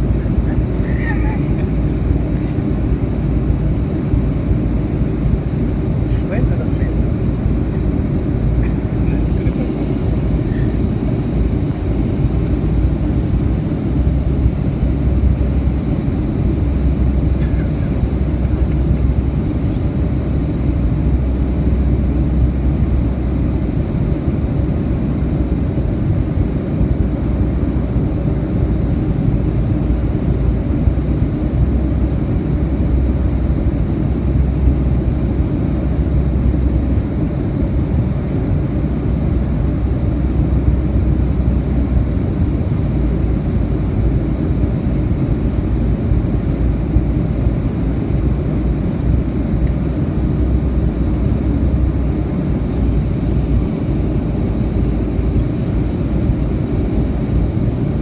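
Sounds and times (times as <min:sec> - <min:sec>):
airliner cabin engine rush: 0:00.0 - 0:58.0.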